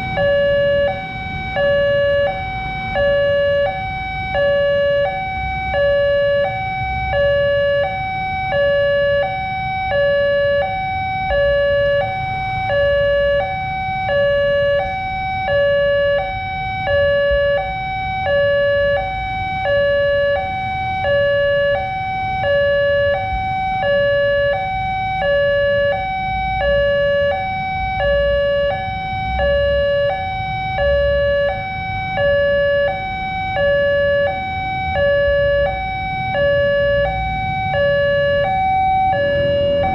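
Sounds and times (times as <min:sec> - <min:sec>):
level crossing two-tone alarm: 0:00.0 - 0:39.9
low traffic rumble: 0:00.0 - 0:39.9.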